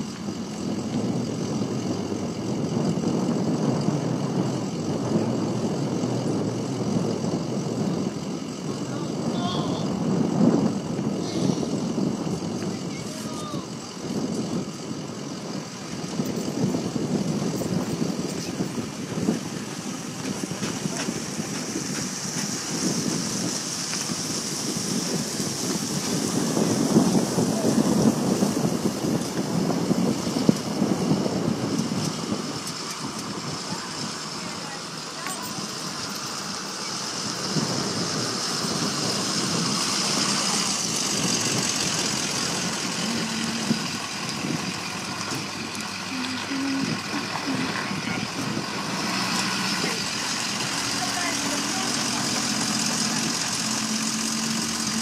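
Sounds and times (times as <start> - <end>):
truck engine idling: 0.0 - 55.0
wind buffeting microphone: 0.0 - 55.0.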